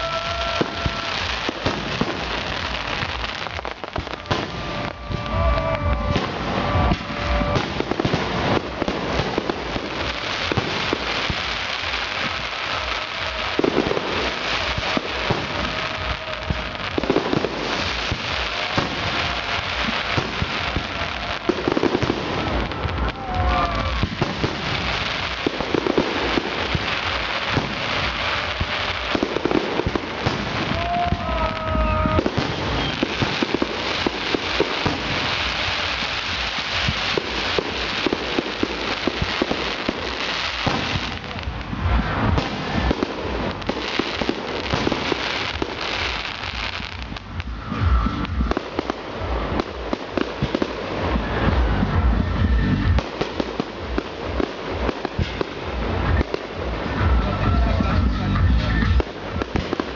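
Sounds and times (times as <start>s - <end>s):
firework whistles: 0.0s - 59.9s
fireworks crackling: 0.0s - 59.9s
heavy firework bangs: 0.0s - 59.9s.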